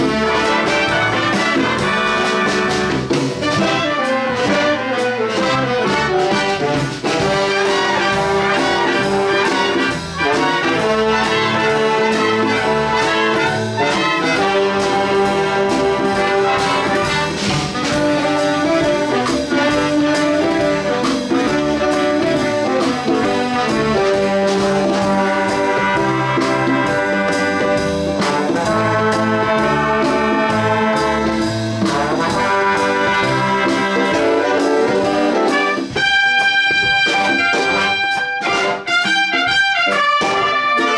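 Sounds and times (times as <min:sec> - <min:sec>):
brass section held chords: 0:00.0 - 0:40.9
steady drum beat: 0:00.0 - 0:40.9.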